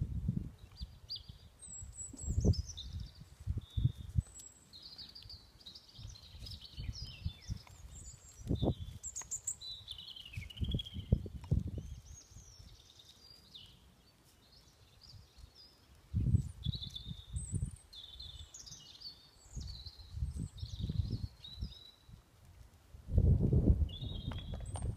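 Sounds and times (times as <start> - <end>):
songbirds trilling: 0.6 - 22.1.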